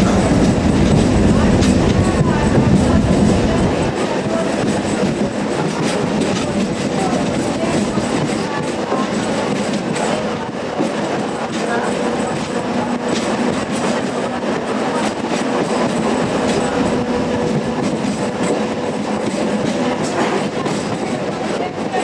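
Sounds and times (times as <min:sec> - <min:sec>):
clickety-clack over rail joints: 0:00.0 - 0:22.0
train wheels rumbling: 0:00.0 - 0:22.0.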